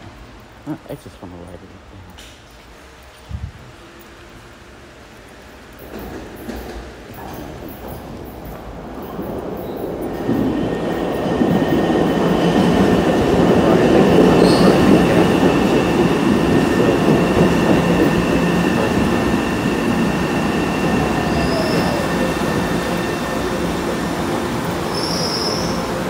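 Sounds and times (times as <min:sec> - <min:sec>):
subway train wheels rumbling on rail: 0:00.0 - 0:26.0
train high whine: 0:03.7 - 0:26.0.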